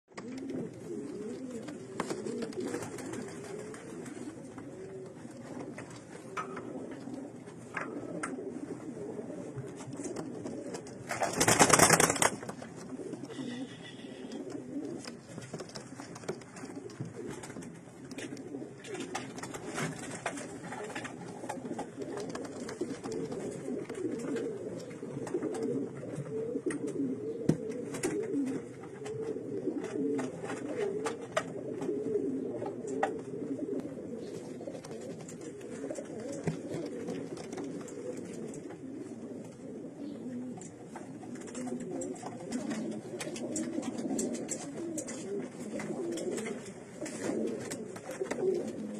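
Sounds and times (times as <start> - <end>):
pigeons cooing: 0.1 - 48.9.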